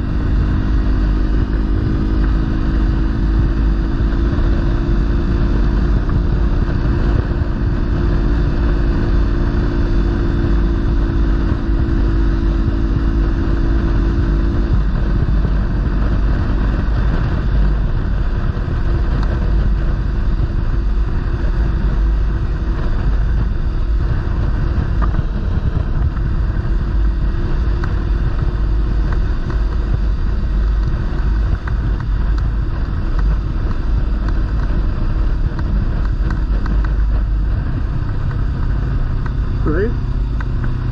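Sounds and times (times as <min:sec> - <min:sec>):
motorcycle engine running: 0:00.0 - 0:40.9
road rumble: 0:00.0 - 0:40.9
wind rushing on microphone: 0:00.0 - 0:40.9.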